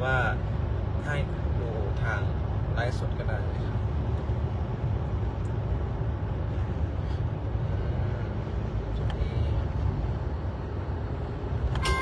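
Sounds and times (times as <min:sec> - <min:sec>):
vehicle cabin rumble: 0:00.0 - 0:12.0.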